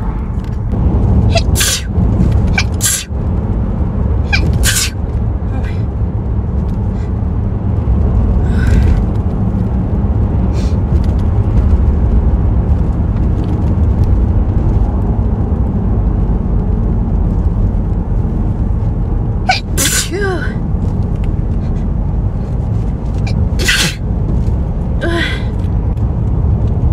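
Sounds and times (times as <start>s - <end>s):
steady low rumble: 0.0s - 26.9s.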